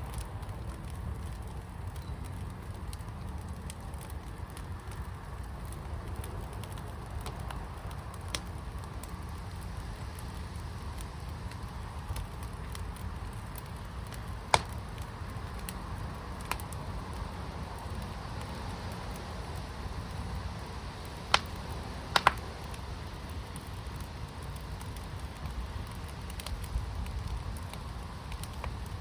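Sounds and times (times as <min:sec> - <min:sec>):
fire burning low rumble: 0:00.0 - 0:29.0
fire crackling pops: 0:00.0 - 0:29.0.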